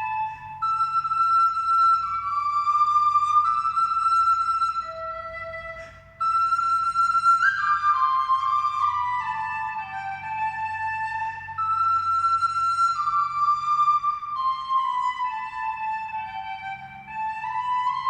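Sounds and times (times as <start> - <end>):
flute-like melody: 0.0 - 18.0.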